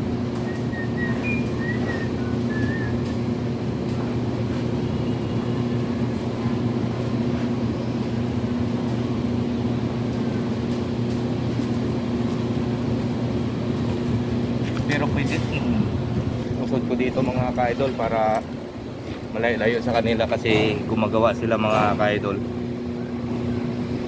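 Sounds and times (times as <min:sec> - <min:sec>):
machine engine droning: 0:00.0 - 0:24.0.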